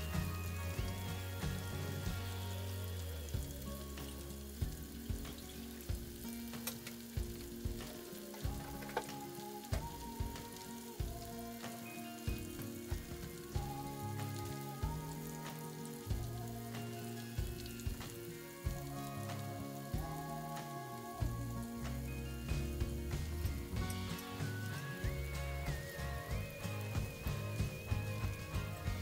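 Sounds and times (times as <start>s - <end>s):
oil sizzling: 0.0s - 29.0s.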